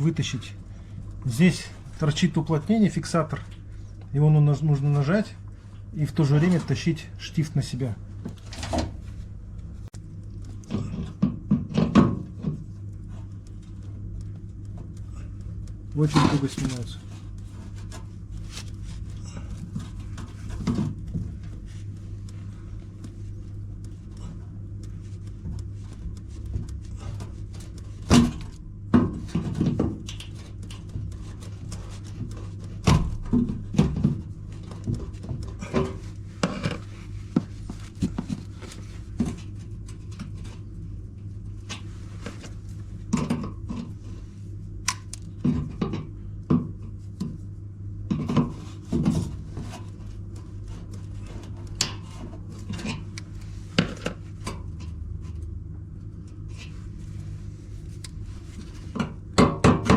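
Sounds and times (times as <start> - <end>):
low hum: 0.0 - 59.4.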